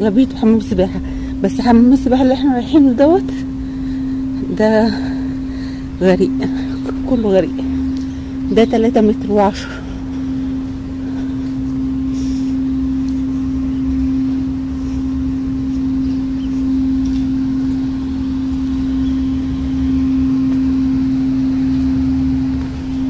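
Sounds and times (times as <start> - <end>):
low rumble: 0.0 - 23.0
steady mechanical hum: 0.0 - 23.0.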